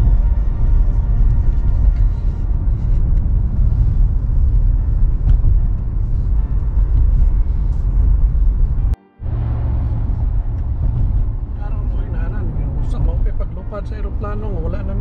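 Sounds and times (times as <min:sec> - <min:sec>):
car interior engine and road drone: 0:00.0 - 0:15.0.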